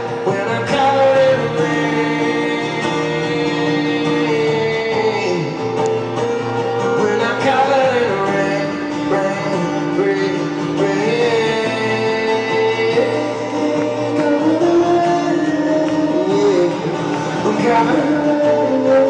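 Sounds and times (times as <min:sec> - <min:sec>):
person singing: 0:00.0 - 0:06.0, 0:06.8 - 0:19.0
acoustic guitar playing: 0:00.0 - 0:19.0.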